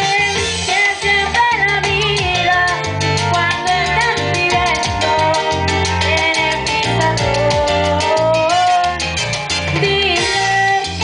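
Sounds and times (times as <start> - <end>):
band with bass and beat: 0.0 - 11.0.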